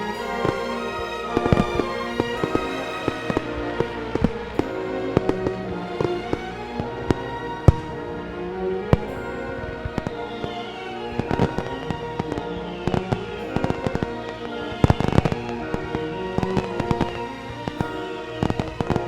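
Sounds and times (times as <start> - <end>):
orchestral music: 0.0 - 19.0.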